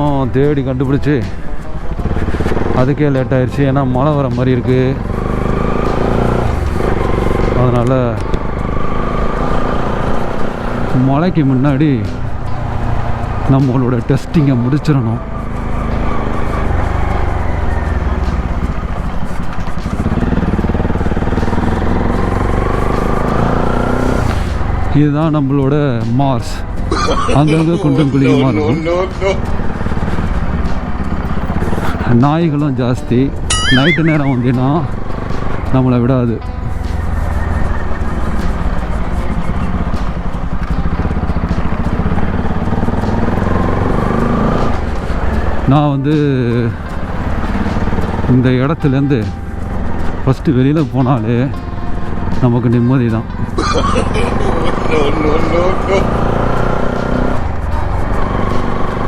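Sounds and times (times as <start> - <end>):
motorcycle engine pulsing: 1.2 - 25.0, 27.9 - 32.2, 33.4 - 45.8, 46.6 - 59.0.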